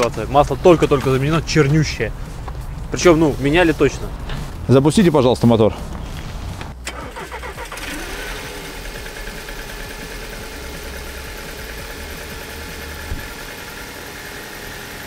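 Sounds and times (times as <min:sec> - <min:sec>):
car engine starting and idling: 0:00.0 - 0:04.8, 0:05.7 - 0:15.0.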